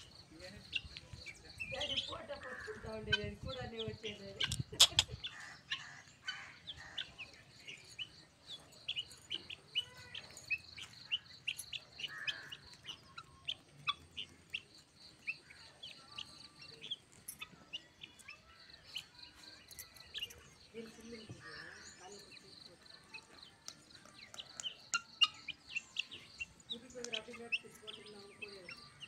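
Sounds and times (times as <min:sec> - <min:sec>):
birds chirping rapidly: 0:00.0 - 0:29.0.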